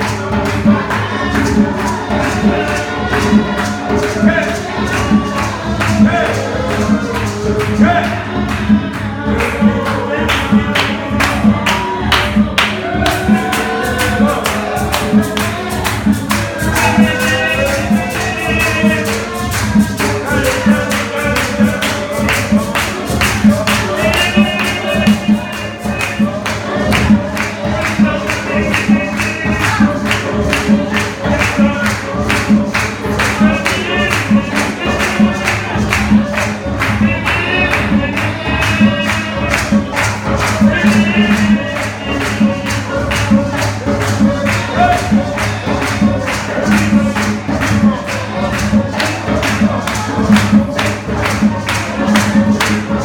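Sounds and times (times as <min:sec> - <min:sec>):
tambourine beat: 0:00.0 - 0:53.0
voices singing over a band: 0:00.0 - 0:53.0.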